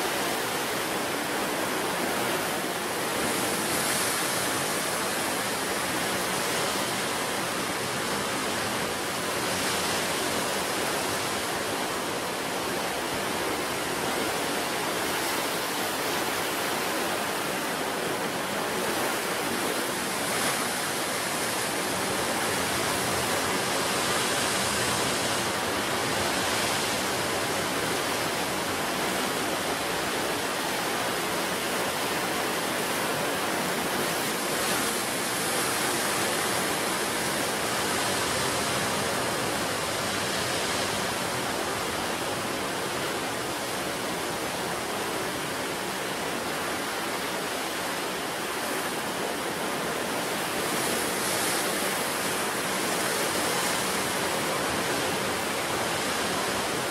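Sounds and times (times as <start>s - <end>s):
sea waves washing ashore: 0.0s - 56.9s.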